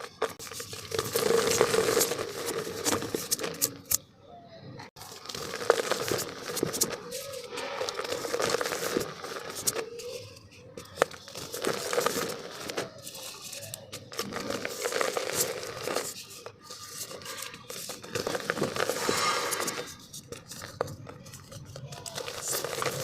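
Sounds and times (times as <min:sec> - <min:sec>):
dry dirt crunching in pot: 0:00.0 - 0:04.0, 0:05.0 - 0:23.0.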